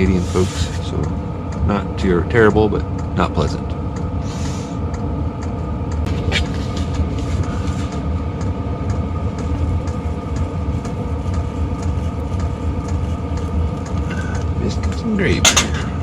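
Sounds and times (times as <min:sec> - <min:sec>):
diesel heater hum and blower: 0:00.0 - 0:16.0.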